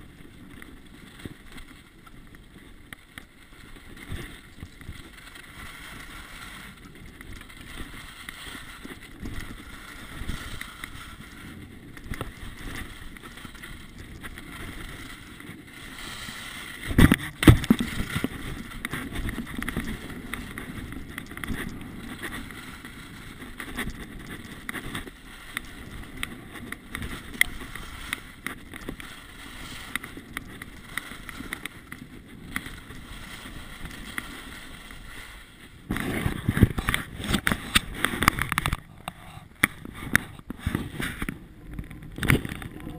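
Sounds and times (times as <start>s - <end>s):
skis scraping over snow: 0.0s - 42.9s
wind on camera: 0.0s - 42.9s.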